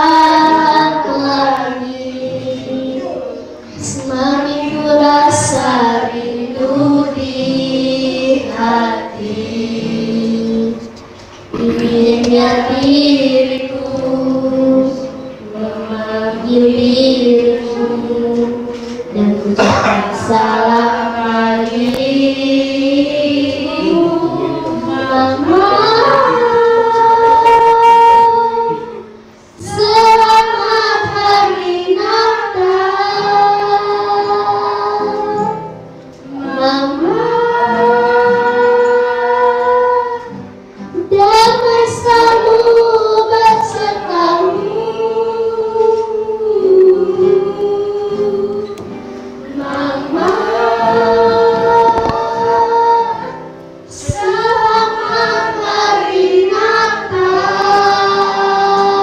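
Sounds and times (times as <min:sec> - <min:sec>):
children and women singing: 0:00.0 - 0:59.0.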